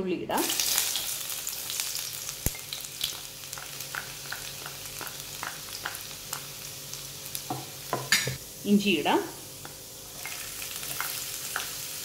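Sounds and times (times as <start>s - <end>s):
garlic sizzling in oil: 0.3s - 12.0s.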